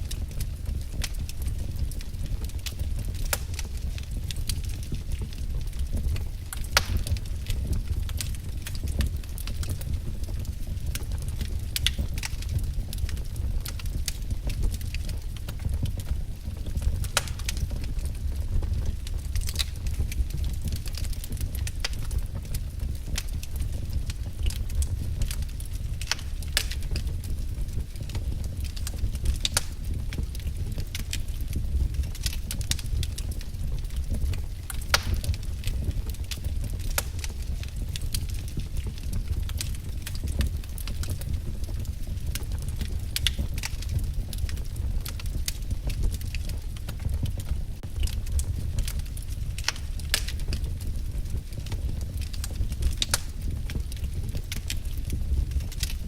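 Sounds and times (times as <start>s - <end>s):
low rumble of burning firewood: 0.0s - 56.0s
wood fire crackling: 0.0s - 56.0s.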